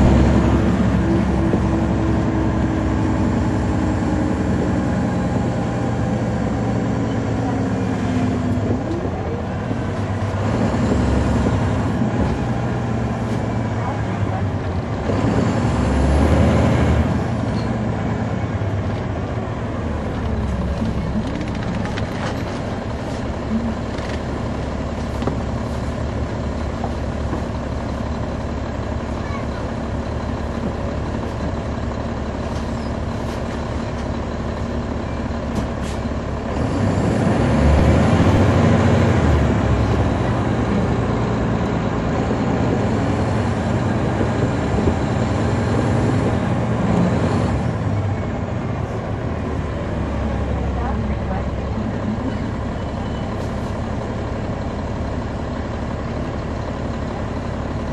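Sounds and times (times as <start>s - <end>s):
bus diesel engine humming: 0.0s - 57.9s.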